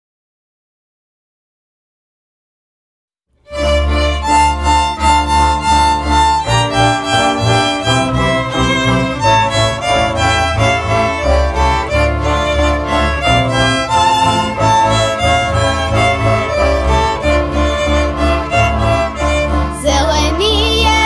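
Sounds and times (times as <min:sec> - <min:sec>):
fiddle leading the tune: 0:03.4 - 0:21.0
double bass line: 0:03.5 - 0:21.0
folk string band playing: 0:03.5 - 0:21.0.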